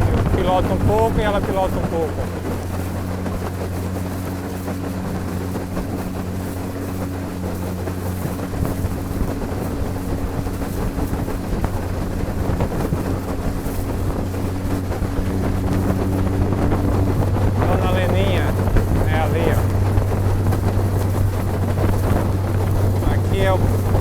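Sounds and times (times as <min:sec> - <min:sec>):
boat motor humming: 0:00.0 - 0:24.0
water rushing past hull: 0:00.0 - 0:24.0
wind buffeting microphone: 0:00.0 - 0:24.0.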